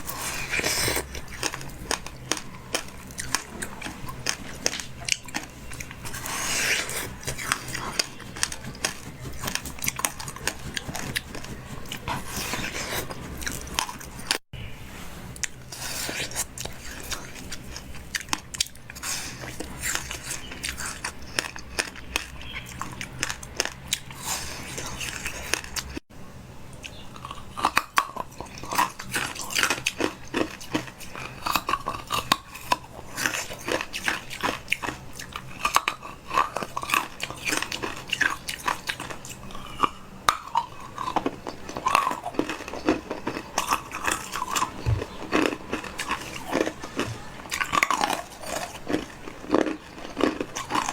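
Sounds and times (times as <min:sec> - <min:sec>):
crunchy bites and chewing: 0:00.0 - 0:14.4, 0:15.4 - 0:26.0, 0:26.8 - 0:50.9.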